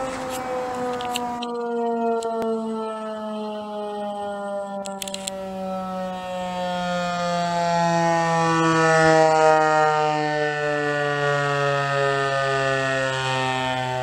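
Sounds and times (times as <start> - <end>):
warning siren winding down: 0.0 - 14.0.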